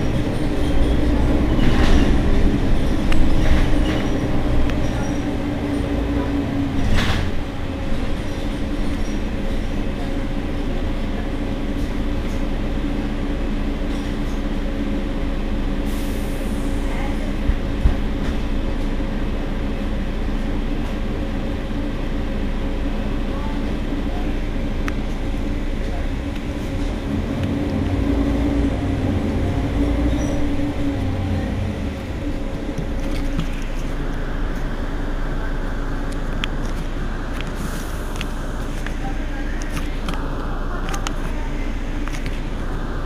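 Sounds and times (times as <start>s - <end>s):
bus engine idling: 0.0s - 43.0s.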